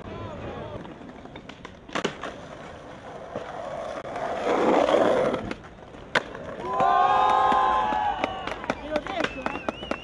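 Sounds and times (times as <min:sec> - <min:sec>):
skateboard clack: 0:00.0 - 0:10.0
skateboard wheels rolling: 0:00.0 - 0:10.0.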